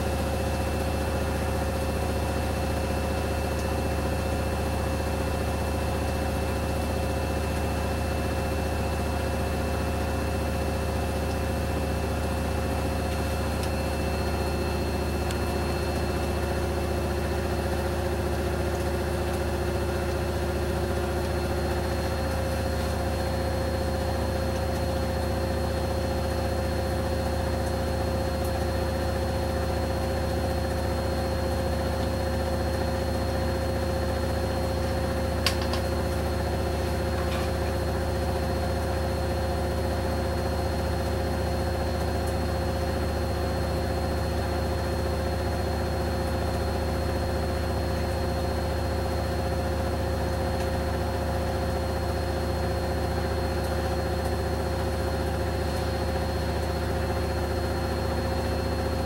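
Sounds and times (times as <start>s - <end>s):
washing machine motor humming: 0.0s - 59.0s.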